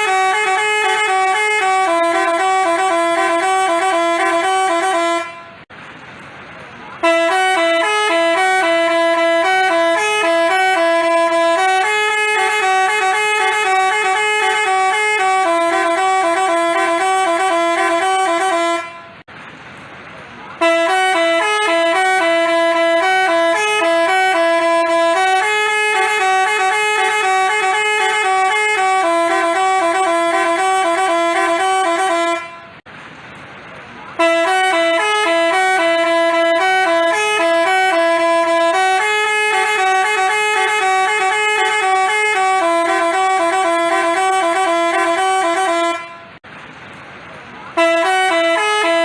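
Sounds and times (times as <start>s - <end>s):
musical bus horn tune: 0.0s - 5.7s, 7.0s - 19.3s, 20.6s - 32.9s, 34.2s - 46.4s, 47.7s - 49.0s.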